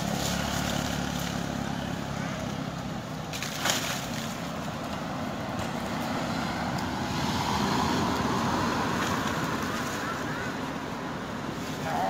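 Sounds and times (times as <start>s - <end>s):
road traffic going by: 0.0s - 12.0s
vehicle passing: 0.0s - 12.0s.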